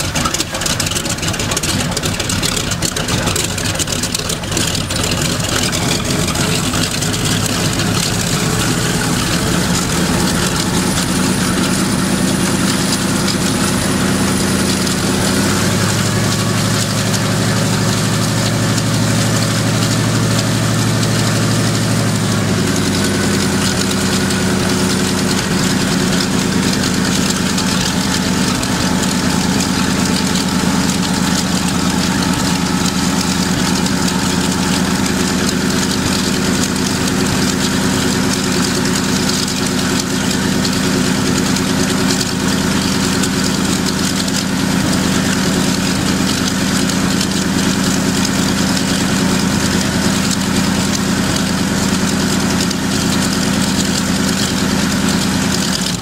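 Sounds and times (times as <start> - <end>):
radial aircraft engine running: 0.0 - 56.0.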